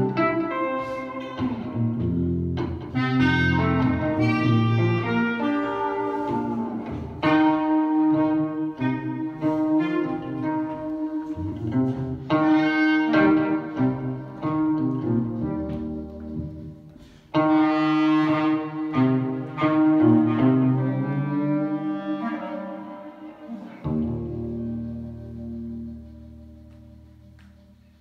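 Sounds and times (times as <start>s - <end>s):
guitar: 0.0s - 28.0s
wind instrument melody: 0.0s - 28.0s.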